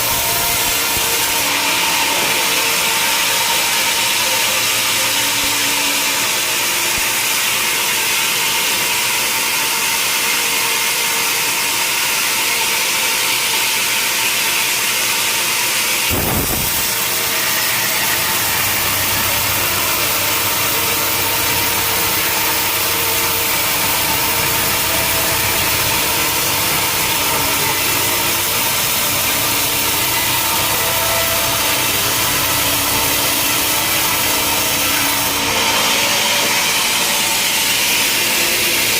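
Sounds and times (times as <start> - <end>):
machine hum: 0.0 - 11.3, 15.1 - 38.9
saw blade cutting log: 0.0 - 38.9.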